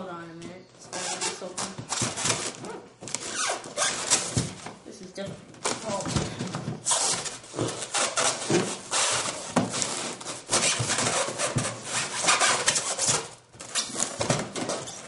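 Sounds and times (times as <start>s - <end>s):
cardboard scraping and rubbing: 0.9s - 4.6s, 5.7s - 15.0s.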